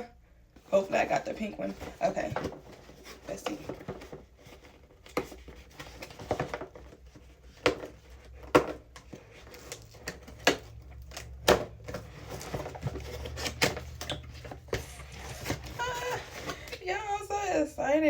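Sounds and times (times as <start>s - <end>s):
packaging rustling: 0.7s - 17.0s.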